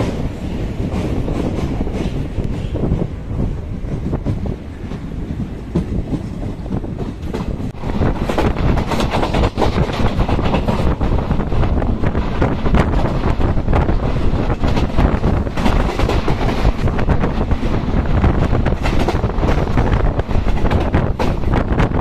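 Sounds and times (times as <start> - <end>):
train coaches rumbling: 0.0 - 22.0
train wheels clacking over rail joints: 3.8 - 22.0.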